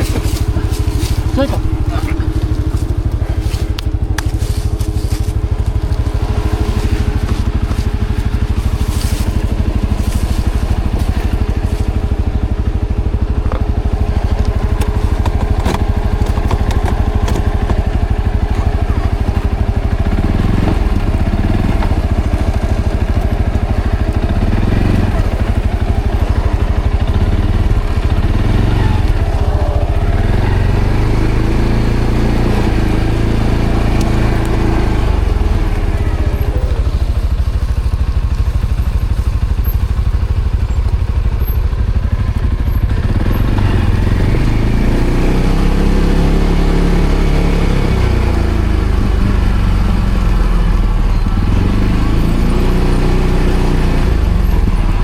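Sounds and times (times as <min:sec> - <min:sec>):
atv engine running under load: 0:00.0 - 0:55.0.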